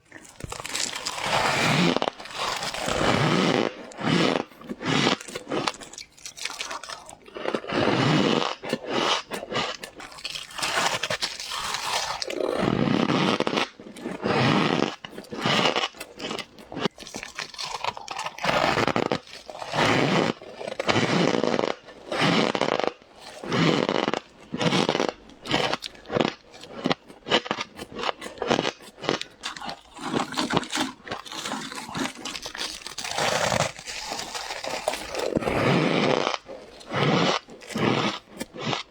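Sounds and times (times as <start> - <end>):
ice crunching between teeth: 0.0 - 38.9.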